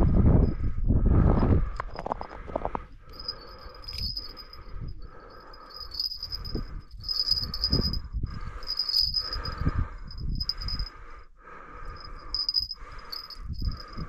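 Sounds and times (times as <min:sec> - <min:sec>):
heavy breathing: 0:00.0 - 0:14.0.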